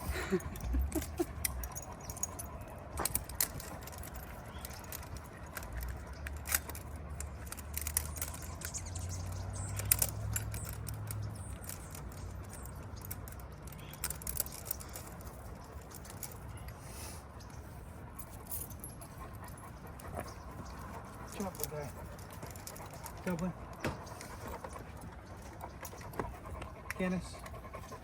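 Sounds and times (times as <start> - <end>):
dog tags clinking: 0.0 - 16.8, 18.2 - 28.0.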